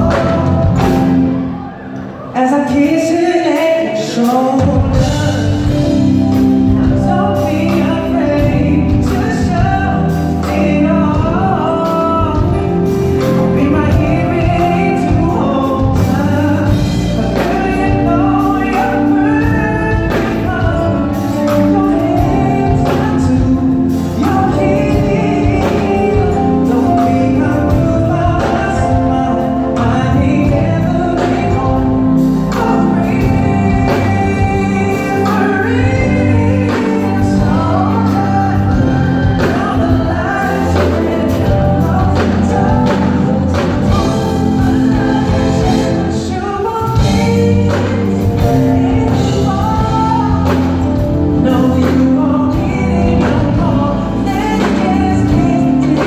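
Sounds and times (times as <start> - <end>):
live band playing slow ballad: 0.0 - 56.0
man singing: 0.0 - 56.0.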